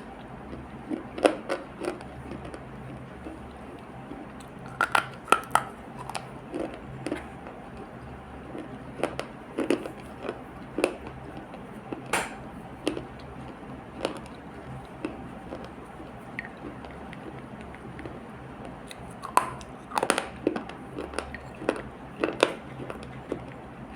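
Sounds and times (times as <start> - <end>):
faint steady hum: 0.0 - 23.9.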